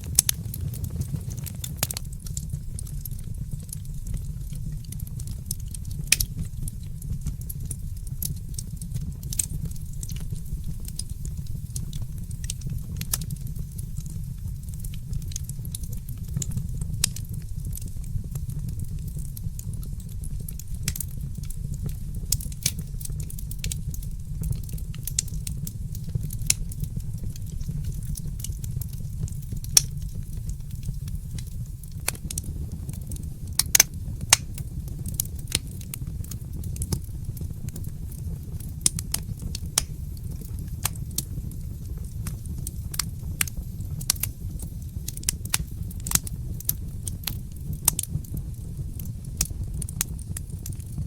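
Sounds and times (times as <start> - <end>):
fire crackling and popping: 0.0 - 51.0.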